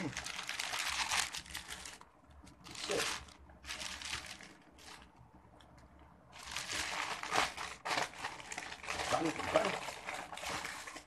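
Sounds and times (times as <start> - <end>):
gift packaging crinkling: 0.0 - 5.2, 6.3 - 11.0.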